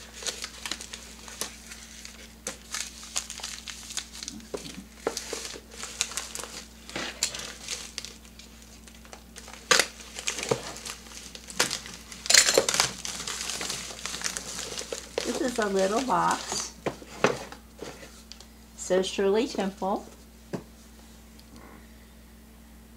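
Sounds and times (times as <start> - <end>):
paper wrapping crinkling: 0.0 - 18.5.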